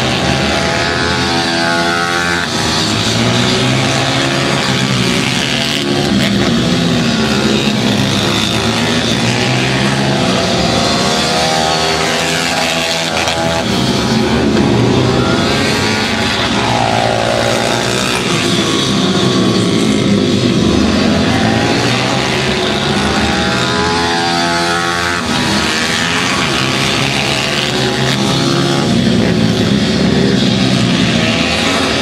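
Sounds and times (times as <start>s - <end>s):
motorbike engines revving: 0.0s - 32.0s
motorbike passing by: 0.0s - 32.0s.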